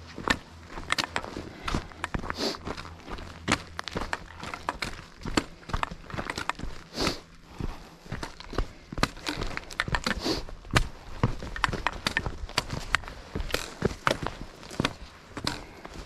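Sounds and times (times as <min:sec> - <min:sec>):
footsteps on rocky trail: 0:00.0 - 0:16.0.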